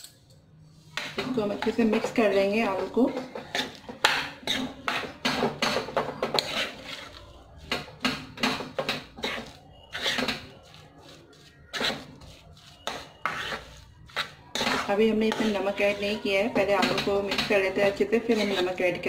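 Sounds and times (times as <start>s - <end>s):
utensil scraping a pan: 0.7s - 19.0s.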